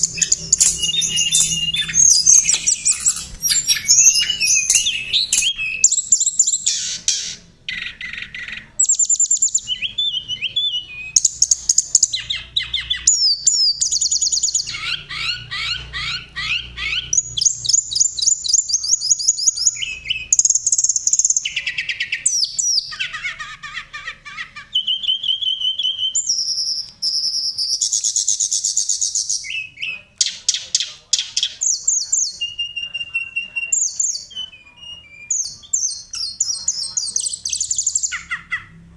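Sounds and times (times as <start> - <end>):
songbird trilling and whistling: 0.0 - 38.7.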